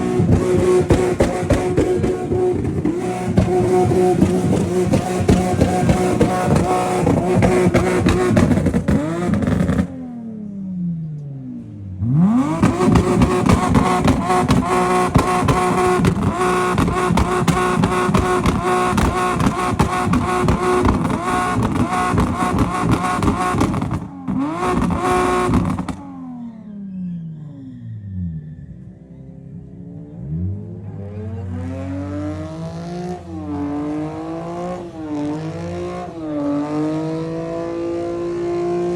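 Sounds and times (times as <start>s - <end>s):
car engine revving: 0.0s - 10.9s, 11.9s - 26.8s, 28.5s - 38.9s.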